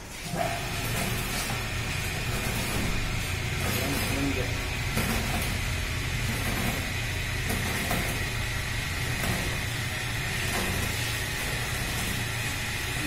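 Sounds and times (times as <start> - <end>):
blender motor hum and whine: 0.0 - 13.0.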